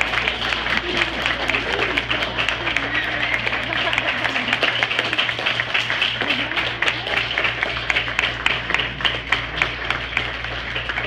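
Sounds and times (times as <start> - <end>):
audience applauding: 0.0 - 11.0
steady low hum: 0.0 - 11.0.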